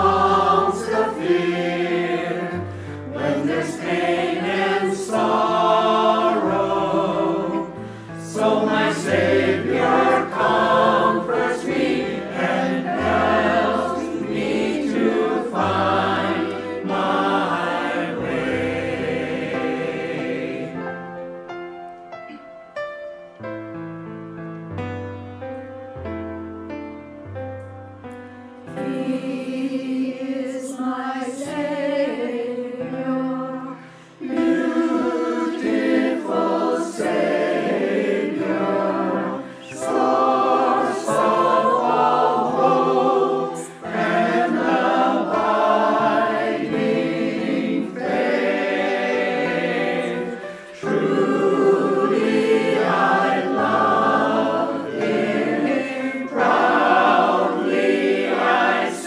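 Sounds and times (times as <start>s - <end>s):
choir singing a hymn: 0.0s - 21.7s, 28.6s - 59.0s
piano accompaniment: 0.0s - 59.0s.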